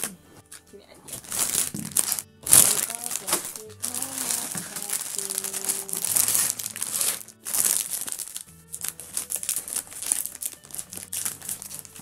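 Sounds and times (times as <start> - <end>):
scissors cutting plastic bag: 0.0 - 12.0
plastic bag crinkling: 1.1 - 12.0.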